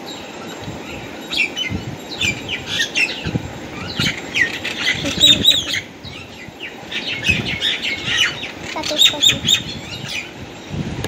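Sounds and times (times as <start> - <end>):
small birds chirping and squawking: 0.0 - 11.0.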